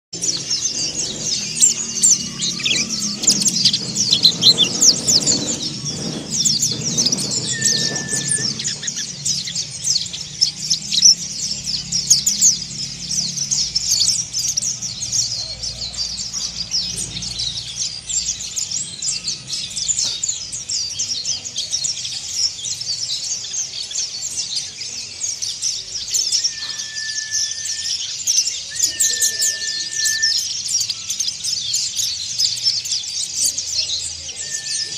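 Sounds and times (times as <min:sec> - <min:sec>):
bird twittering scratchy chatter: 0:00.1 - 0:34.9.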